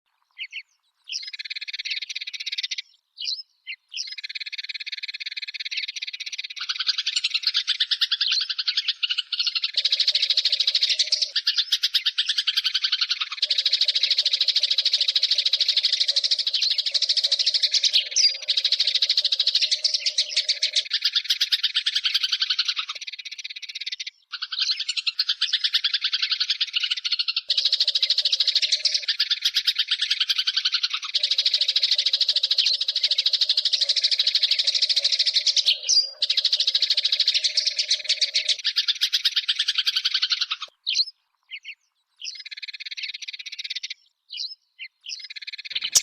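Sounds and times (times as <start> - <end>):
sparrows chirping: 0.1 - 46.0
sparrow chattering: 0.2 - 46.0.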